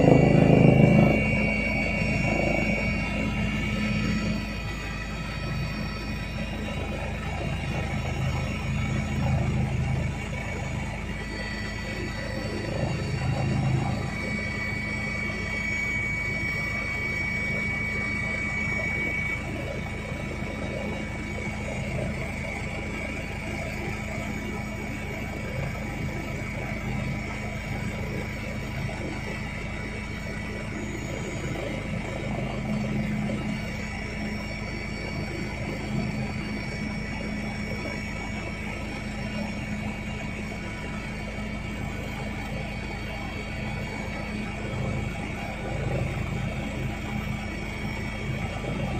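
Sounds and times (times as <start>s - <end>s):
helicopter engine and rotor drone: 0.0s - 48.9s
high whine: 0.0s - 48.9s.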